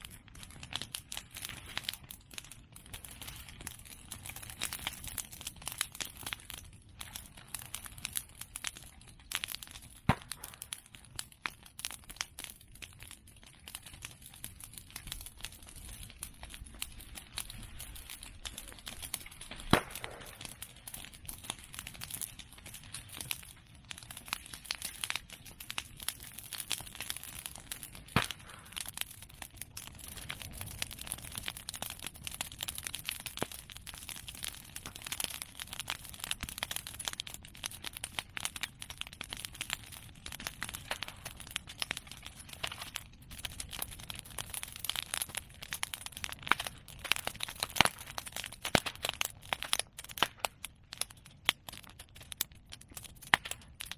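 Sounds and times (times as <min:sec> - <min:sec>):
bonfire crackling: 0:00.0 - 0:53.9
sharp pops from fire: 0:00.0 - 0:53.9.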